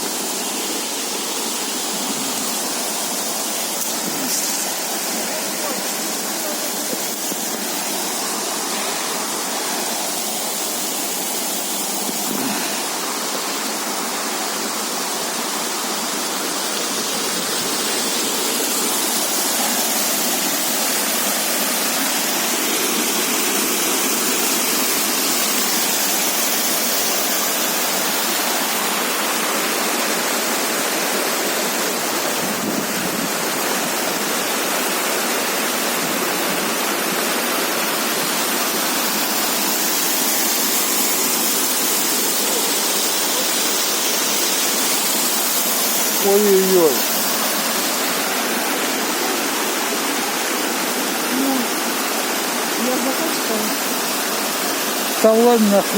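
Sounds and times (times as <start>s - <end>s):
water cascading over rocks: 0.0s - 55.9s.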